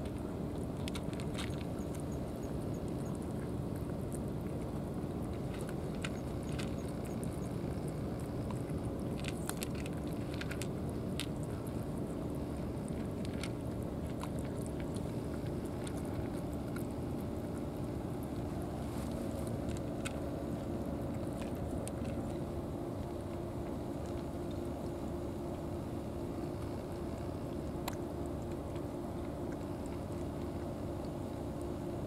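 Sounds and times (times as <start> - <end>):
cats crunching food: 0.0 - 32.0.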